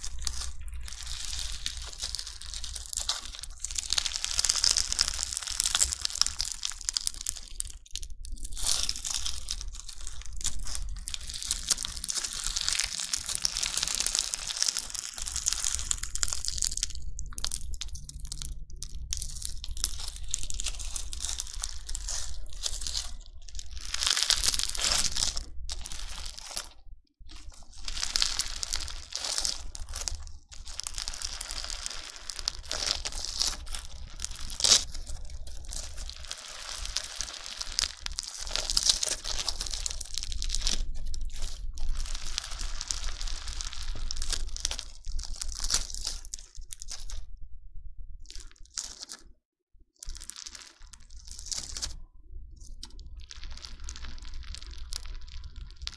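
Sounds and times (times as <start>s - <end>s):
plastic bead slime crackling: 0.0s - 47.3s, 48.3s - 49.3s, 50.0s - 55.9s.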